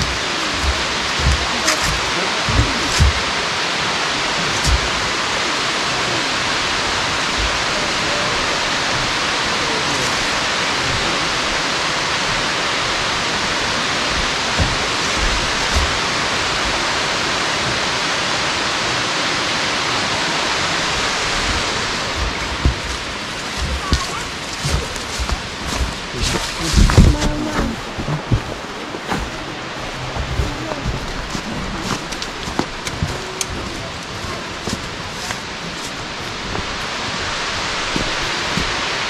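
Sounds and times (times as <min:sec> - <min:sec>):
low thumps: 0:00.0 - 0:03.5, 0:04.3 - 0:05.4, 0:06.5 - 0:18.0, 0:20.6 - 0:39.0
waterfall roaring: 0:00.0 - 0:39.0.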